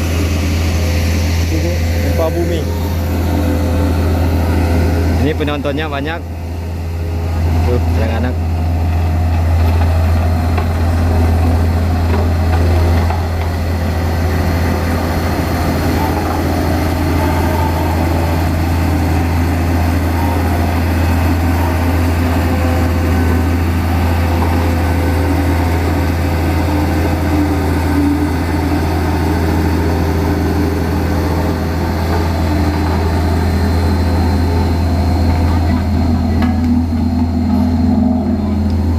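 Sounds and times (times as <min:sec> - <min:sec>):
heavy diesel machinery humming: 0:00.0 - 0:38.9.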